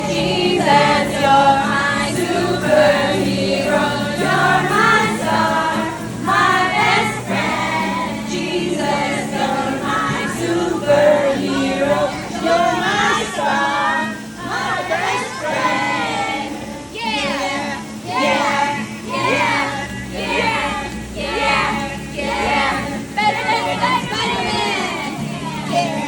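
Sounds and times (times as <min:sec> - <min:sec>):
children singing in chorus: 0:00.0 - 0:26.0.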